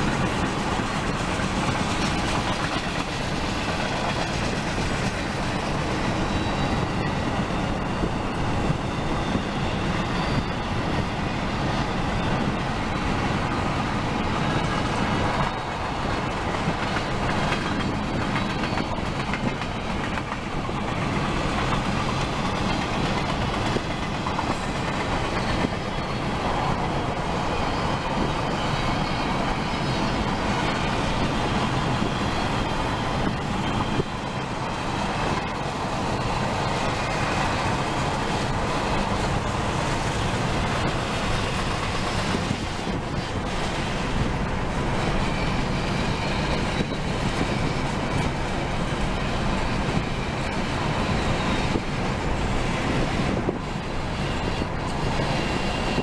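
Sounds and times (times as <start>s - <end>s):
freight train wheels on rails: 0.0s - 56.0s
road and wind noise: 0.0s - 56.0s.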